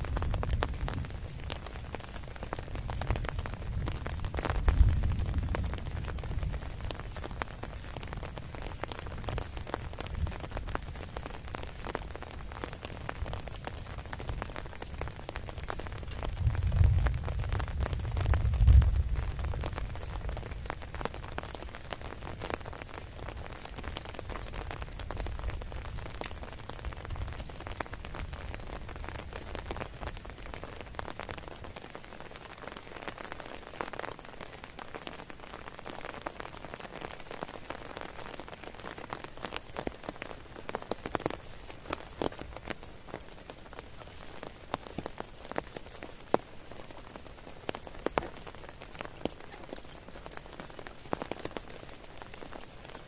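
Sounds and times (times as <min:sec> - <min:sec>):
rain pattering and dripping: 0:00.0 - 0:53.0.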